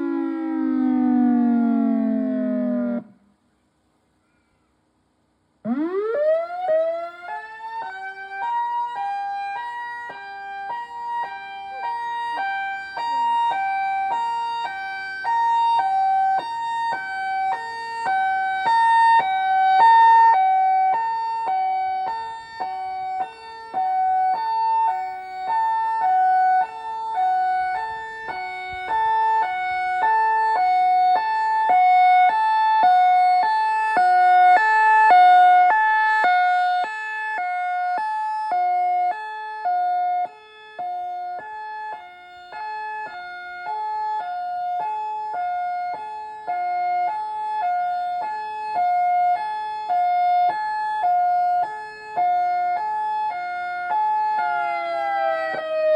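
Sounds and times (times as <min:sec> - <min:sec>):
warning siren alternating tone: 0:00.0 - 0:03.4, 0:05.6 - 0:55.9.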